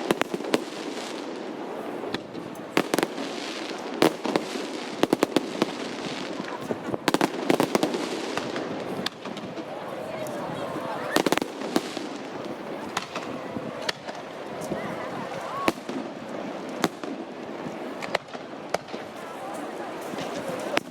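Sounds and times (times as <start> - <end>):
fireworks bangs and cracks: 0.0 - 20.9.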